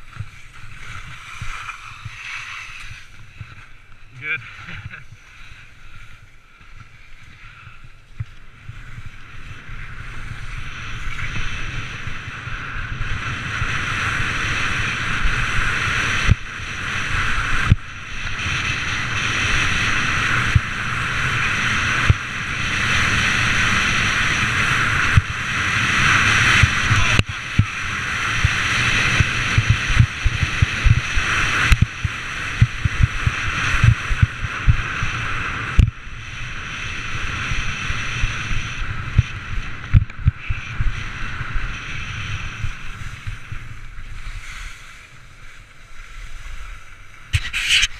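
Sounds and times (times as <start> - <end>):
skis scraping over snow: 0.0 - 47.9
wind rumble on microphone: 0.0 - 47.9.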